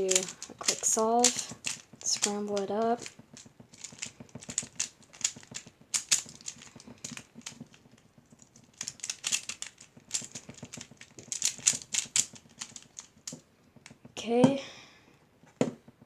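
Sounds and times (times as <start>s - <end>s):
plastic puzzle clicks and clacks: 0.0s - 14.0s.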